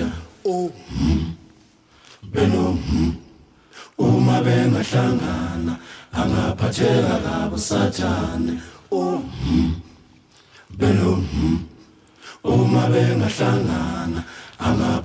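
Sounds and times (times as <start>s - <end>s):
a cappella voices chanting: 0.0s - 15.0s.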